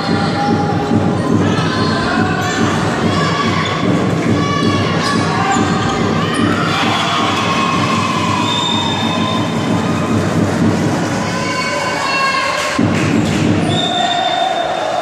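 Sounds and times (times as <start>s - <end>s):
spectators cheering and shouting: 0.0s - 15.0s.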